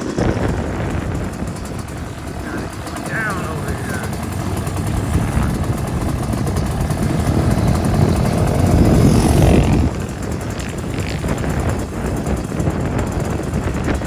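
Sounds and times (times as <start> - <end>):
pit bike engines racing: 0.0 - 14.0.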